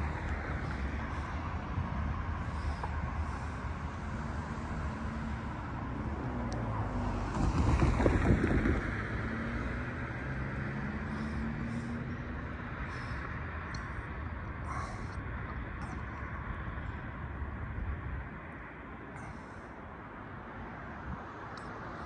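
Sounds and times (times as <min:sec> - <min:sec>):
low engine drone: 0:00.0 - 0:22.0
street noise: 0:00.0 - 0:22.0.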